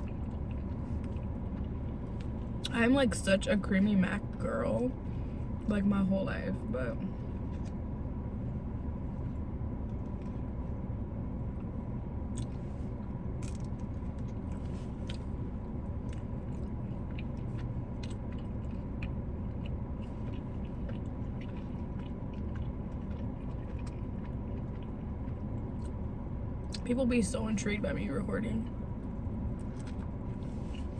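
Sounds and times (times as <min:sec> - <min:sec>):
chewing and wet mouth sounds: 0:00.0 - 0:30.9
steady low rumble: 0:00.0 - 0:30.9.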